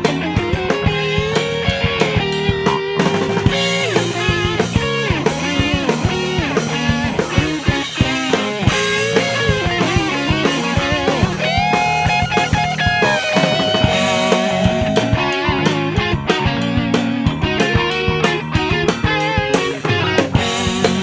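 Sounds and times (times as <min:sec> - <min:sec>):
bass guitar: 0:00.0 - 0:21.0
drum kit: 0:00.0 - 0:21.0
electric guitar lead: 0:00.0 - 0:21.0.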